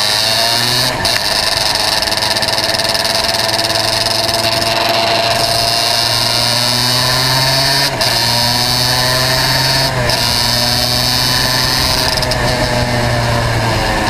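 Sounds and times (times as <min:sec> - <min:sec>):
kart engine buzzing at high revs: 0:00.0 - 0:14.0.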